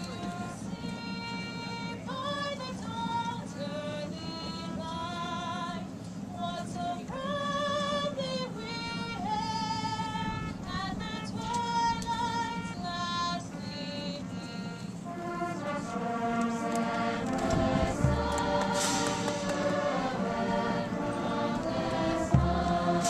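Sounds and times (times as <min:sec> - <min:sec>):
choir singing an anthem: 0:00.0 - 0:23.0.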